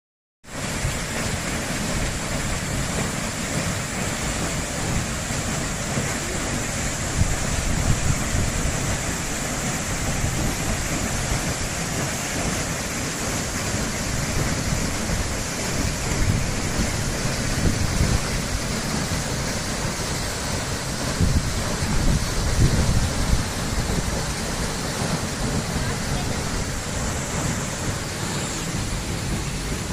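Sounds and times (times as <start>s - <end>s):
waterfall roaring: 0.5s - 29.9s.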